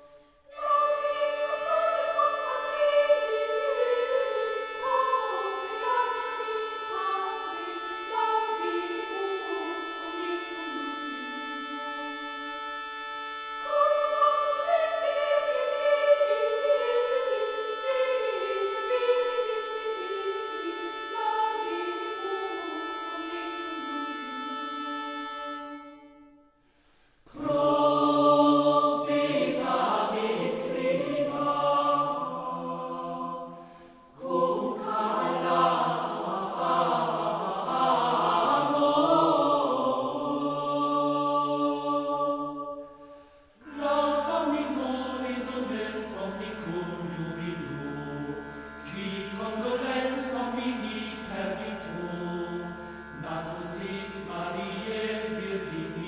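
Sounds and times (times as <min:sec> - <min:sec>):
choral music with held notes: 0:00.0 - 0:56.0.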